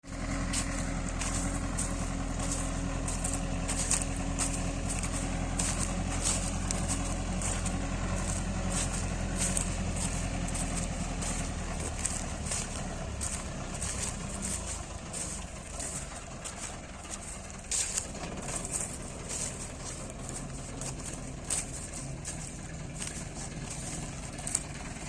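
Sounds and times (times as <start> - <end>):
harvesting machinery rattling: 0.0 - 25.0
tractor engine running: 0.0 - 25.0.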